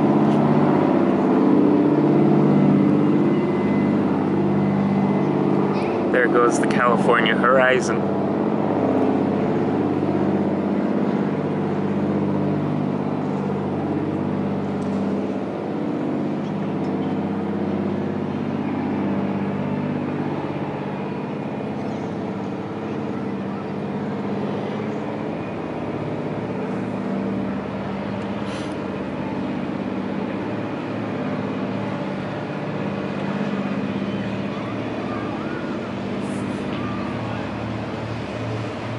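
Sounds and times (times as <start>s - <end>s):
boat diesel engine droning: 0.0s - 38.9s.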